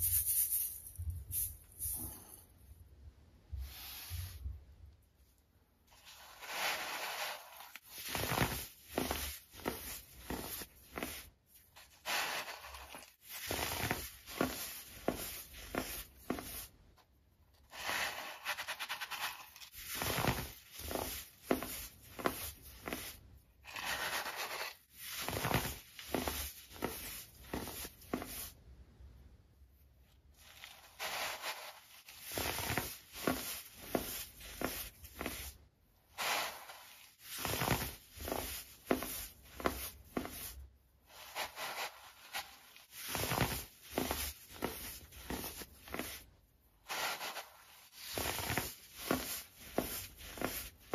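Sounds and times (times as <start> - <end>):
fingers crunching baking soda: 5.9 - 16.8, 17.6 - 28.6, 30.4 - 46.2, 46.8 - 50.9.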